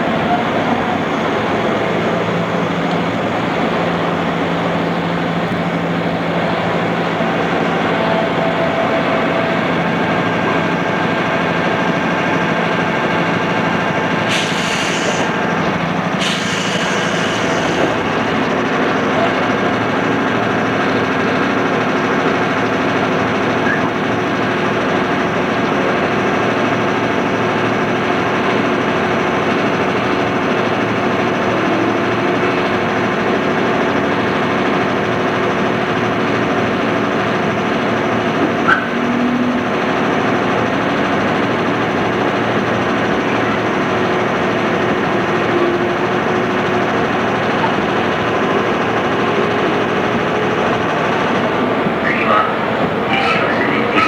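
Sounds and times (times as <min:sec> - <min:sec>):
train carriage interior hum: 0:00.0 - 0:54.0.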